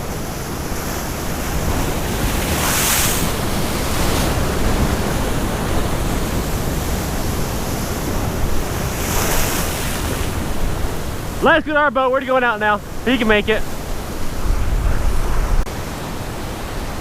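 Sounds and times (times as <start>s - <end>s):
wind rumbling on microphone: 0.0s - 11.5s, 12.8s - 17.0s
surf breaking over rocks: 0.0s - 17.0s.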